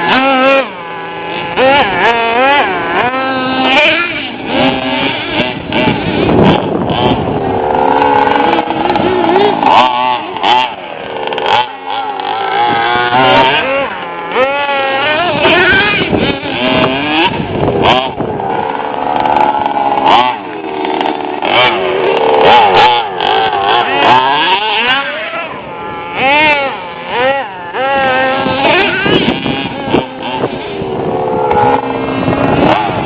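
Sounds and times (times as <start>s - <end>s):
small engines revving high buzz: 0.0s - 33.0s.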